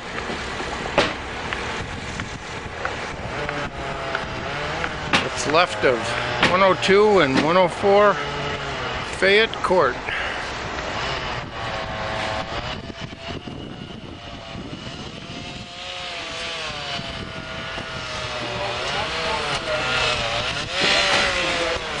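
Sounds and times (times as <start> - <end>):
background rush: 0.0 - 22.0
engine running: 0.0 - 22.0.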